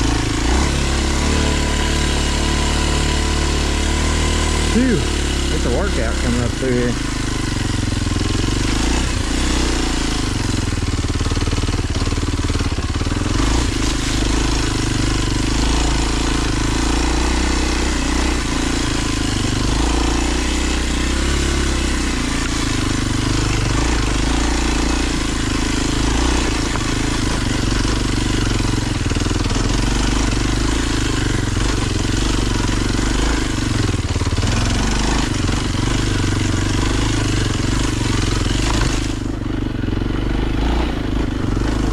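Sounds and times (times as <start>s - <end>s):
motorcycle engine under load: 0.0s - 41.9s.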